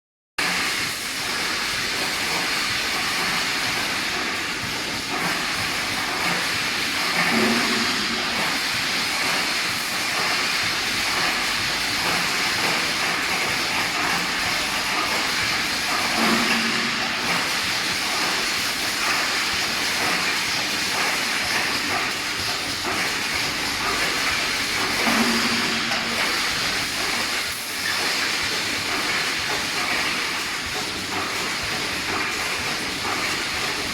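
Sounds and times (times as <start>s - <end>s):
welding machine hissing clatter: 0.4s - 33.9s.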